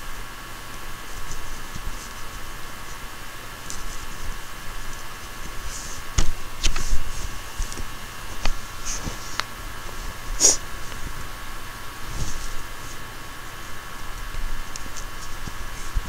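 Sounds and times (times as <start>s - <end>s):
faint electrical whine: 0.0s - 16.0s
yarn rustling: 0.0s - 16.0s.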